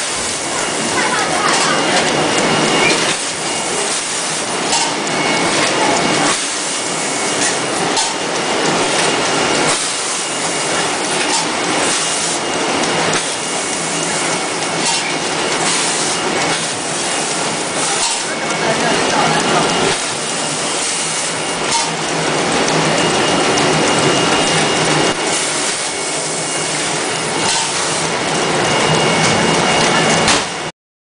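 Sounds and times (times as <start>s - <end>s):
machinery clattering: 0.0s - 30.7s.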